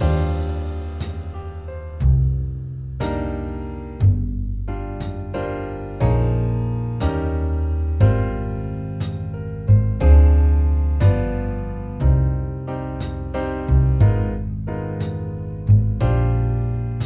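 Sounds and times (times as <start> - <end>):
bass line: 0.0 - 17.0
piano chords: 0.0 - 17.0.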